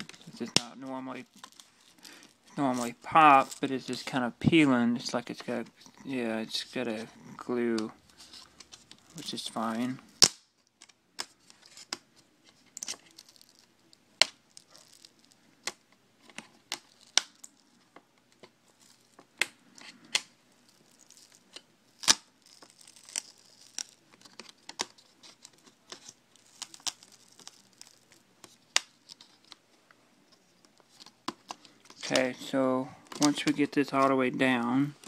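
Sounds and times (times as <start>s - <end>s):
glued plastic crackling and tearing: 0.0s - 4.2s, 5.0s - 29.7s, 30.3s - 35.0s.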